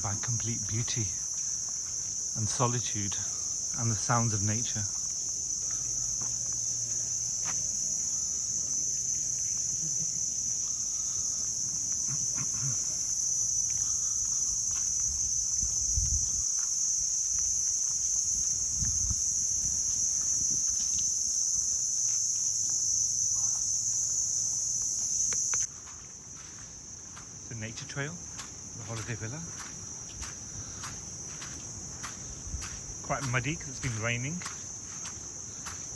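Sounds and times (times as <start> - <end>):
high-pitched insect drone: 0.0 - 35.9.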